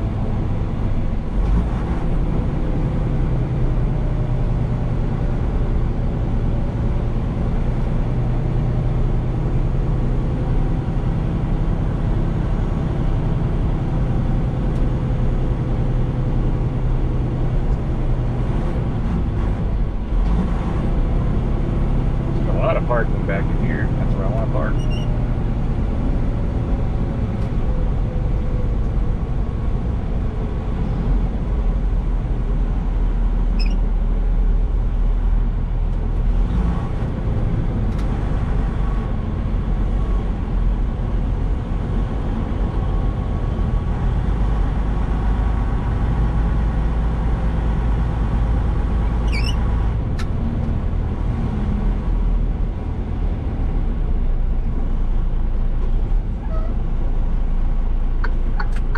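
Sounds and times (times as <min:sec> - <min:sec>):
diesel truck engine running: 0:00.0 - 0:58.9
road noise: 0:00.0 - 0:58.9.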